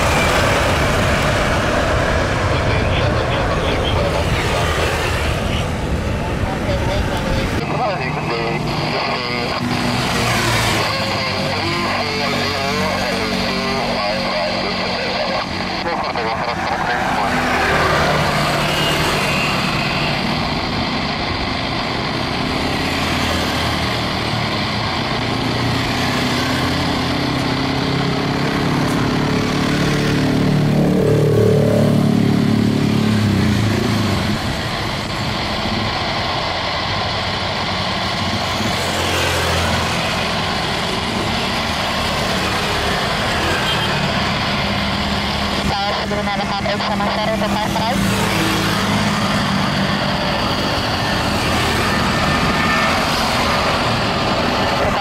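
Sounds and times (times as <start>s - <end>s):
jet engines humming and whining: 0.0s - 55.0s.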